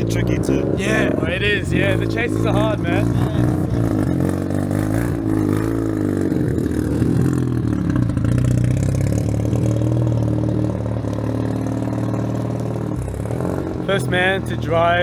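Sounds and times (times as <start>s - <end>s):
rotary car engine pulling away: 0.0s - 15.0s.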